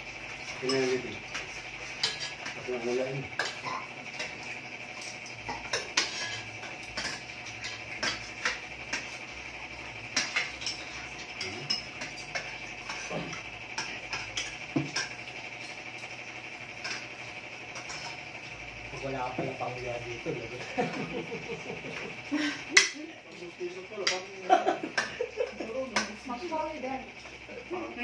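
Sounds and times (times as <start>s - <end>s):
utensils clinking against pots: 0.3s - 16.1s, 16.7s - 27.4s.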